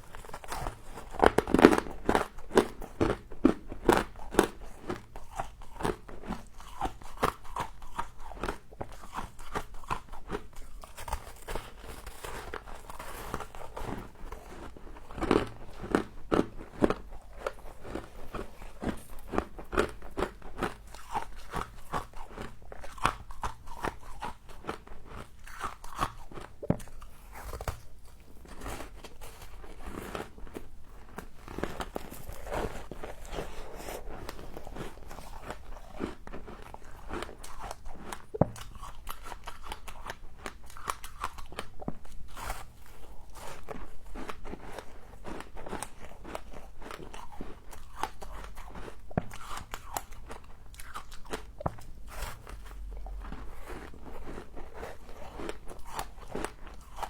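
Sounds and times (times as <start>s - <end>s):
person chewing ice crunching: 0.0s - 57.0s.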